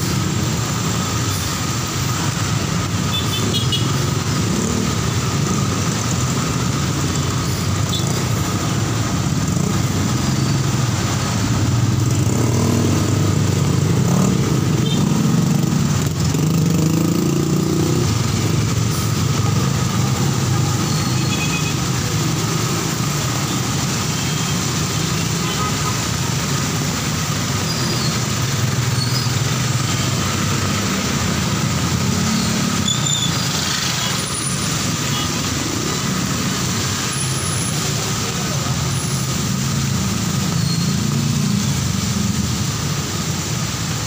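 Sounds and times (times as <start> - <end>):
heavy rain hiss: 0.0 - 44.0
traffic engine drone: 0.0 - 44.0
wet tyres on road: 0.0 - 44.0.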